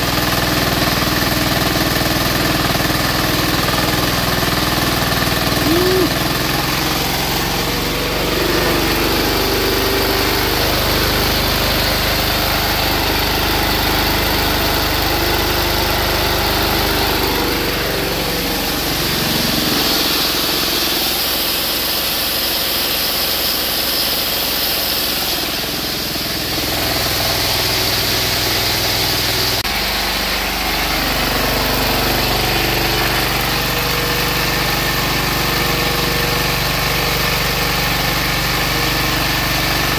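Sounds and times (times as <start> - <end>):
diesel engine running: 0.0 - 22.3, 24.1 - 39.9.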